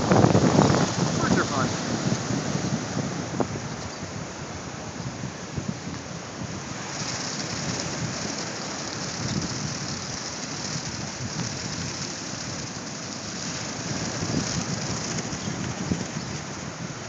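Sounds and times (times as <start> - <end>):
surf hiss: 0.0 - 17.0
wind buffeting microphone: 0.0 - 17.0.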